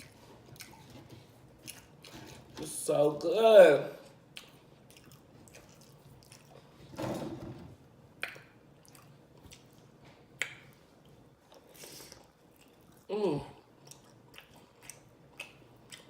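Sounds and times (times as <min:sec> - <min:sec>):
person chewing: 0:00.0 - 0:02.6, 0:04.0 - 0:06.8, 0:08.2 - 0:16.0.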